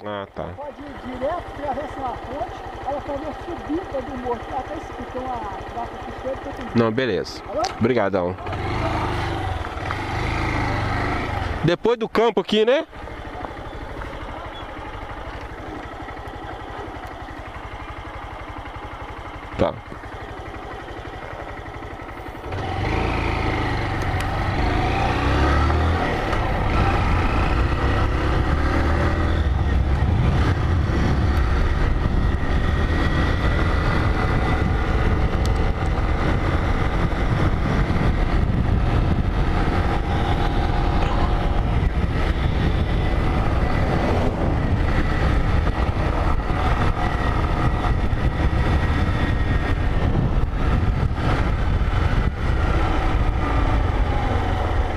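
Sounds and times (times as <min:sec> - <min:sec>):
motorcycle engine: 0:00.0 - 0:54.9.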